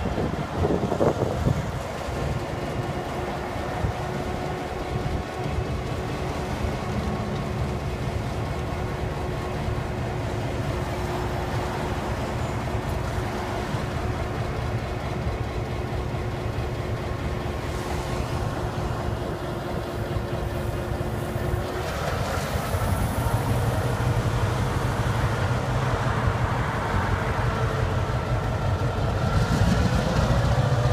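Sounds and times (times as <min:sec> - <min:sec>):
diesel locomotive engine rumbling: 0:00.0 - 0:30.9.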